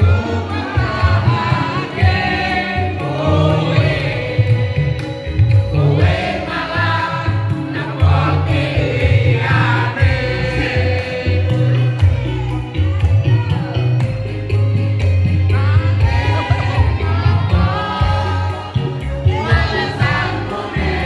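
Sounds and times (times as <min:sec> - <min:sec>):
backing track with bass beat: 0:00.0 - 0:21.0
group of voices singing: 0:00.0 - 0:21.0.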